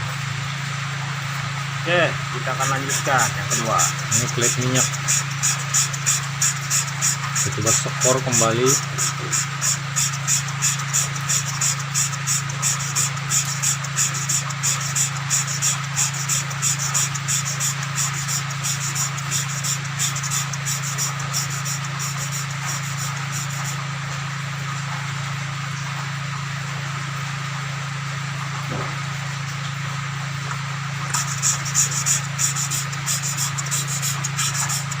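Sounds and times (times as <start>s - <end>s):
gritty valve lapping strokes: 0.0s - 24.4s, 30.8s - 35.0s.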